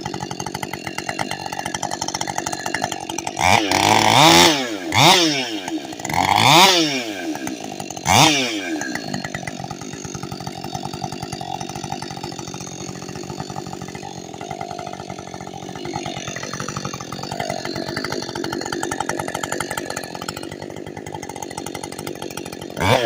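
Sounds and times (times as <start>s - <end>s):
chainsaw running: 0.0s - 23.0s.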